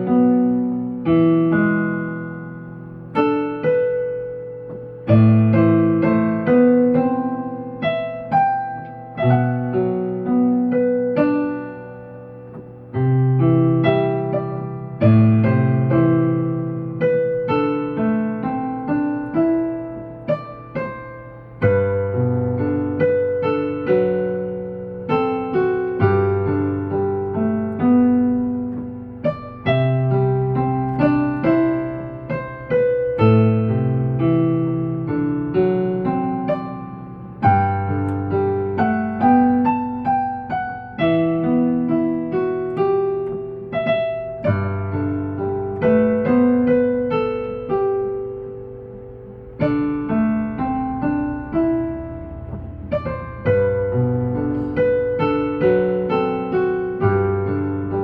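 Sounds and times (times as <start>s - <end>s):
slow solo piano ballad: 0.0s - 58.0s.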